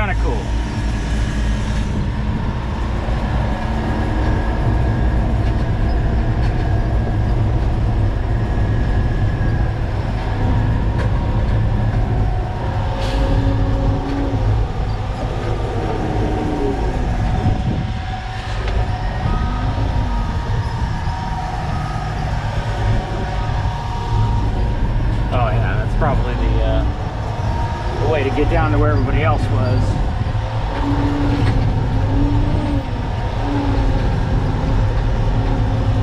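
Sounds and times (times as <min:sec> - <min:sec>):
truck diesel engine rumbling: 0:00.0 - 0:36.0.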